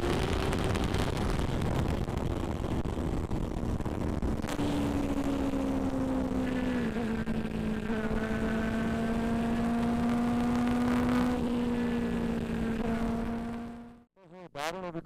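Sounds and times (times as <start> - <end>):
motorcycle engine running: 0.0 - 14.1
road noise: 0.0 - 14.1.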